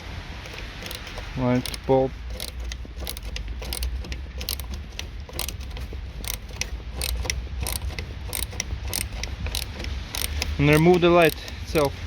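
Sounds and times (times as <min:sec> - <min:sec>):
ratchet handle clicking: 0:00.0 - 0:12.0.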